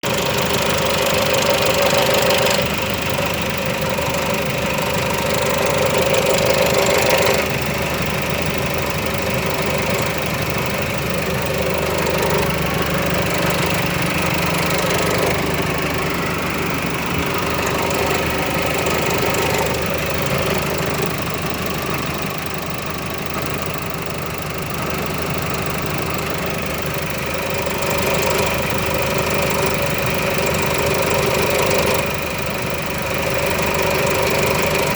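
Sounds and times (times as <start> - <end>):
car engine idling: 0.0 - 34.9
rapid repeating engine knock: 0.0 - 34.9.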